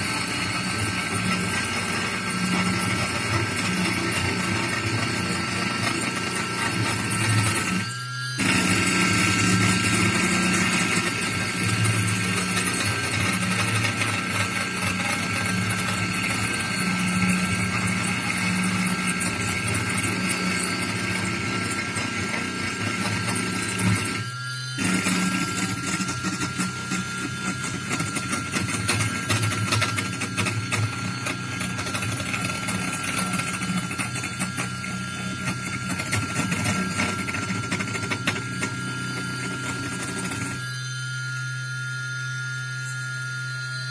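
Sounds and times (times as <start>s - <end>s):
bit cutting plexiglass: 0.0s - 43.9s
spindle motor whine and hum: 0.0s - 43.9s.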